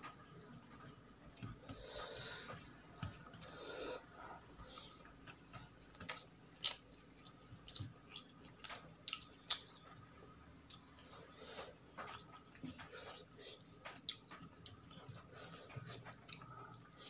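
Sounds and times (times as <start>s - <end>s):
mouth chewing food: 0.8s - 17.0s.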